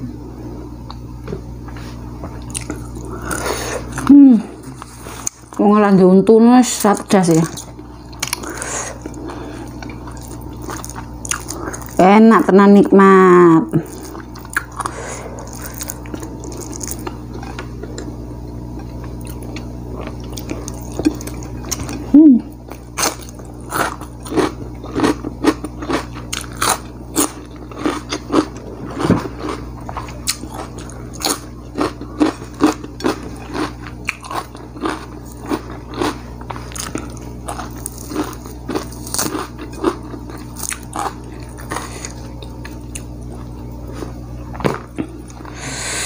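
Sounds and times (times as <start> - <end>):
chewing crunchy food: 2.3 - 5.7, 6.8 - 12.0, 13.8 - 45.7.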